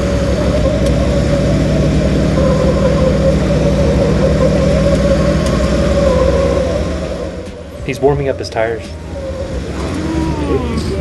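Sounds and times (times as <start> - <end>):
pickup engine running: 0.0 - 11.0
tires spinning in place: 0.0 - 11.0.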